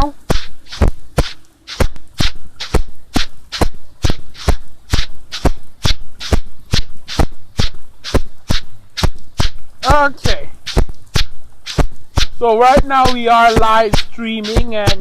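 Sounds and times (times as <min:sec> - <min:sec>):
sharp taps: 0:00.0 - 0:15.0.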